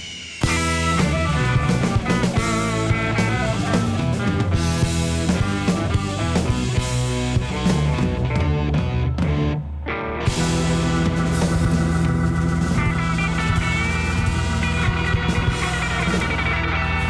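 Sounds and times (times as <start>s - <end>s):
drum kit beat: 0.0s - 9.6s, 10.3s - 17.0s
electric guitar: 0.3s - 17.0s.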